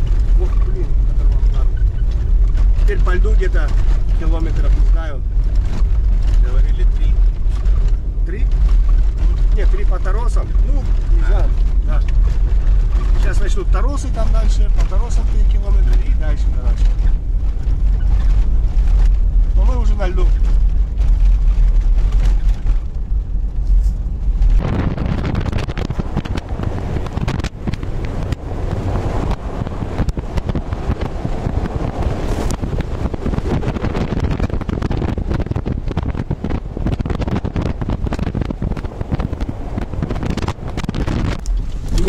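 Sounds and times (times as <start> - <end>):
car engine and tyre rumble: 0.0 - 42.0
knocks and rattles of car: 0.0 - 42.0.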